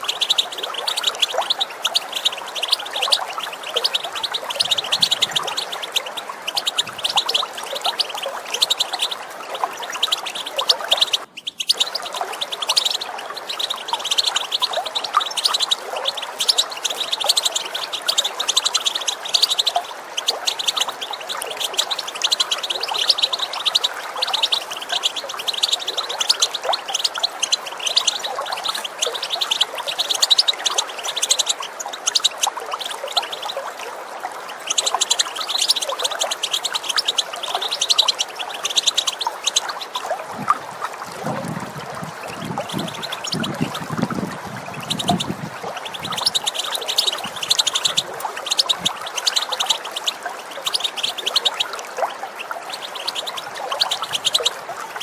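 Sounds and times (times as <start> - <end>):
goldfinch twittering call: 0.0 - 33.8, 34.4 - 55.0
running water: 0.0 - 55.0.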